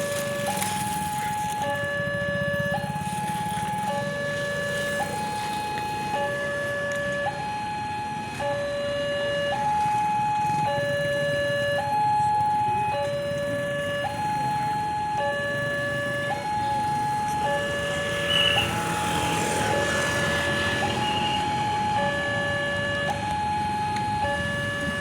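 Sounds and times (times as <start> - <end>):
two-tone electronic alarm: 0.0 - 25.0.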